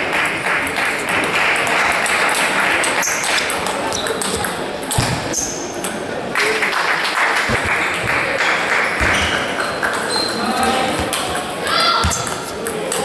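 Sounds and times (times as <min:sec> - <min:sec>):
background voices in a hall: 0:00.0 - 0:13.0.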